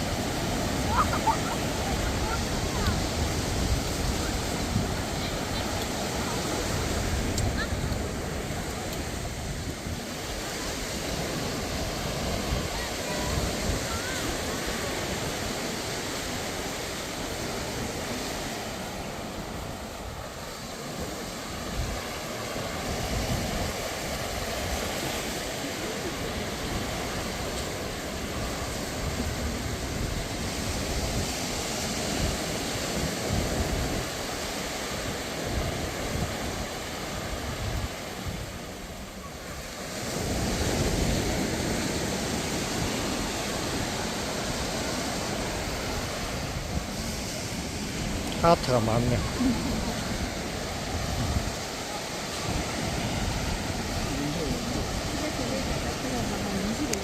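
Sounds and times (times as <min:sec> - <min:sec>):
waves washing onto beach: 0:00.0 - 0:57.0
wind buffeting microphone: 0:00.0 - 0:57.0.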